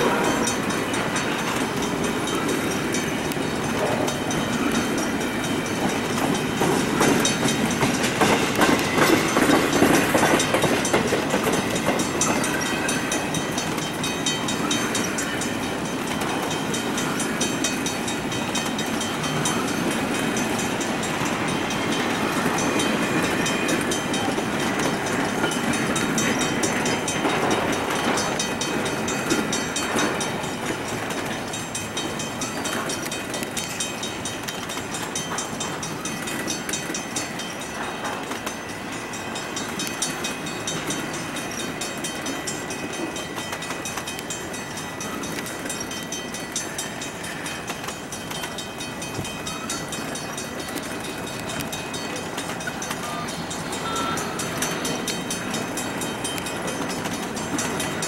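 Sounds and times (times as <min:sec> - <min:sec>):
crossing bells ringing: 0:00.0 - 0:58.0
freight train wheels rumbling: 0:00.0 - 0:58.0
wheels clacking over rail joints: 0:00.0 - 0:58.0.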